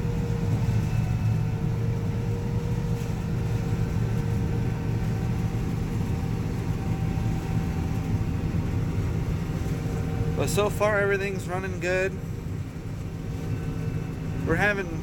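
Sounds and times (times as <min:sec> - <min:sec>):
combine harvester engine drone: 0:00.0 - 0:15.0
faint steady whine: 0:00.0 - 0:15.0.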